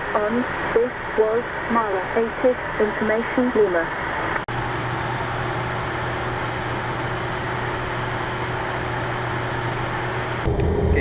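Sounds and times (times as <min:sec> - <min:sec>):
airflow rushing in cockpit: 0:00.0 - 0:11.0
steady low hum: 0:00.0 - 0:11.0.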